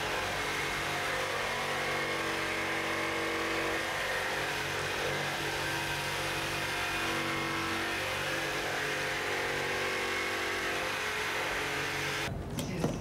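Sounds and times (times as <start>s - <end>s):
steady mechanical drone: 0.0s - 13.0s.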